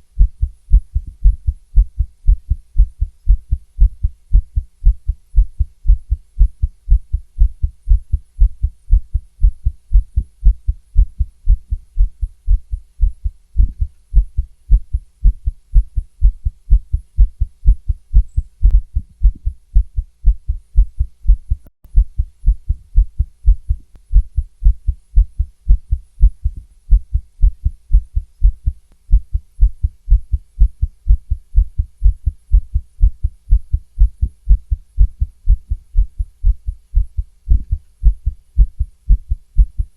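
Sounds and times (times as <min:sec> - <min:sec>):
fast heartbeat through stethoscope: 0:00.1 - 0:39.9.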